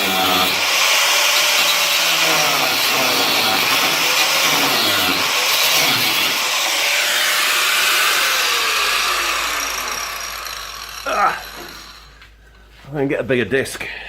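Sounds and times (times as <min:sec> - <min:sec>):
angle grinder cutting steel: 0:00.0 - 0:12.3.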